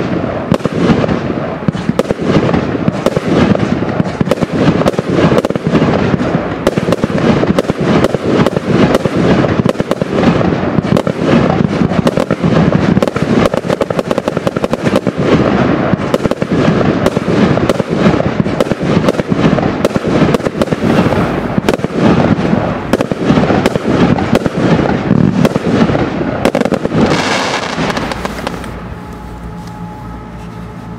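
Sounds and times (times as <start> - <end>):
firework launch thumps: 0.0 - 28.8
crackling firework stars: 0.0 - 30.9
firework aerial bursts: 0.0 - 30.9.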